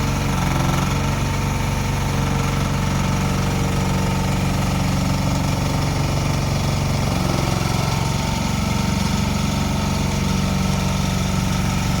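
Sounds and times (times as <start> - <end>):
mini excavator engine running: 0.0 - 12.0.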